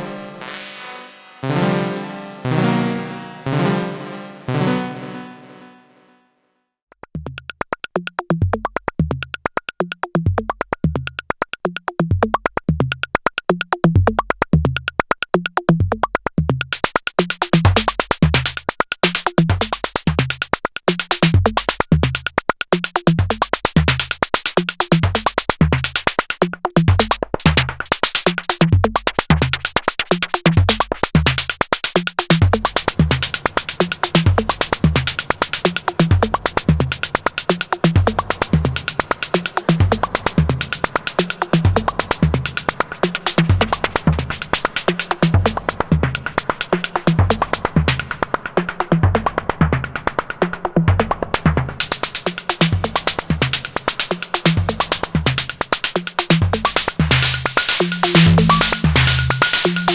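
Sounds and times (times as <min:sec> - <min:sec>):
electronic drum pattern: 0:07.0 - 0:59.9.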